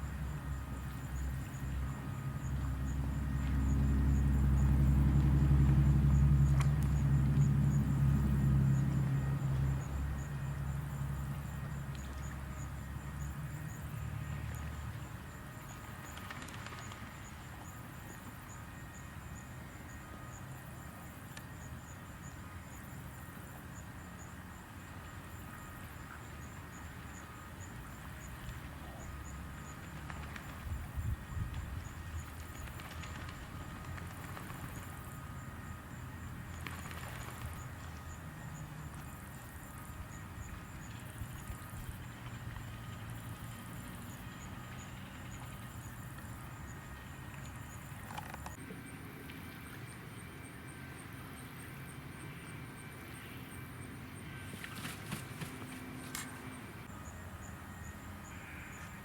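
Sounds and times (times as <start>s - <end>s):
motor hum passing by: 0.0s - 59.0s
quiet steady background noise: 0.0s - 59.0s.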